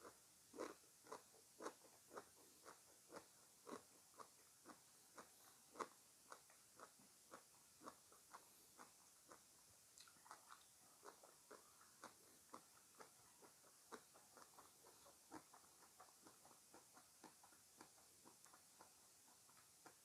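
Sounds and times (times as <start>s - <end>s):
chewing fruit mouth clicks: 0.0s - 20.0s.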